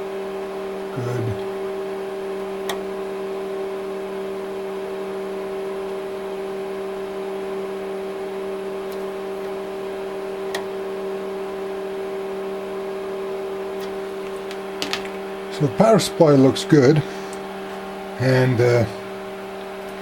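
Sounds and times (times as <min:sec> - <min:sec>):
oscilloscope whirring hum: 0:00.0 - 0:20.0.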